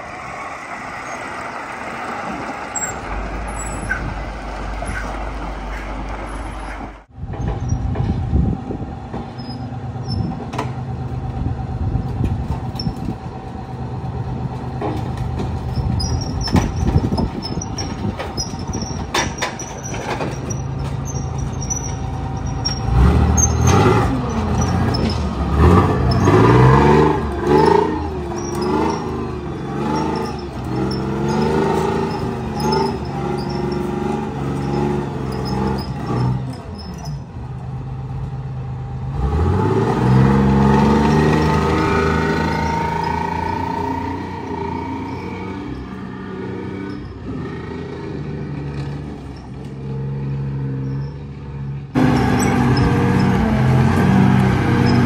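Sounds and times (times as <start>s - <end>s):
tracked vehicle engine revving: 0.0s - 55.0s
tracks clanking and squeaking: 0.9s - 55.0s.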